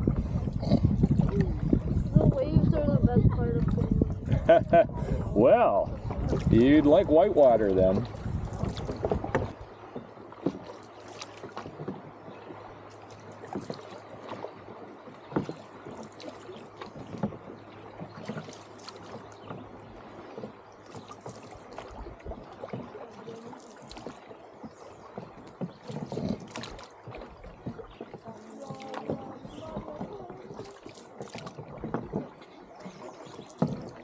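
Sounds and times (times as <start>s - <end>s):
paddles knocking: 0.0s - 12.6s, 13.3s - 34.0s
paddle splashes: 0.0s - 34.0s.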